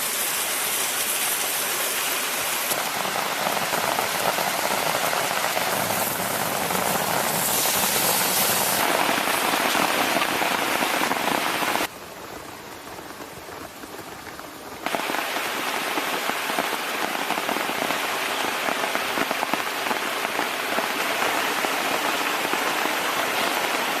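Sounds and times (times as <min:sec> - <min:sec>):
food sizzling over campfire: 0:00.0 - 0:24.0.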